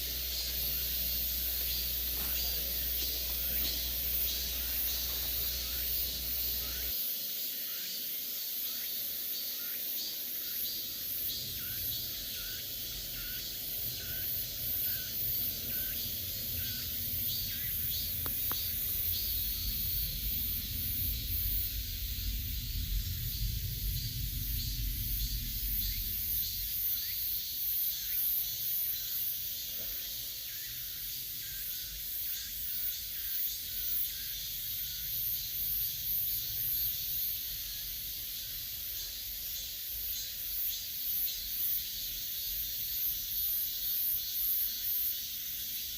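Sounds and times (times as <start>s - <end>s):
cicadas singing: 0.0s - 45.9s.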